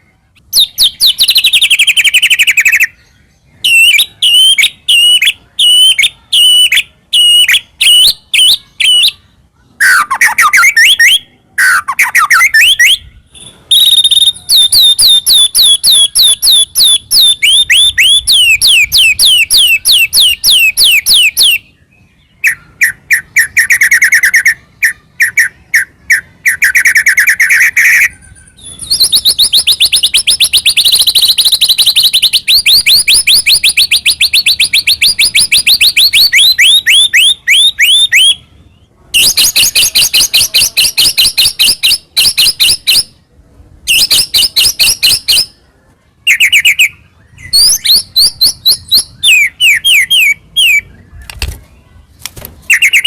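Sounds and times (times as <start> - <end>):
bird singing loudly: 0.0 - 43.2, 43.9 - 45.6, 46.3 - 51.2, 52.7 - 53.0.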